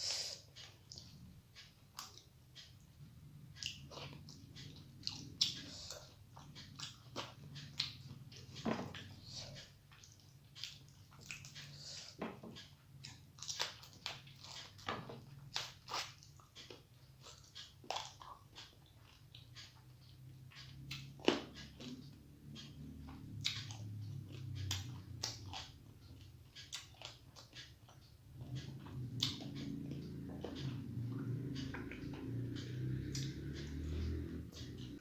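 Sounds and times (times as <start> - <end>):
person chewing and eating: 0.0 - 35.0.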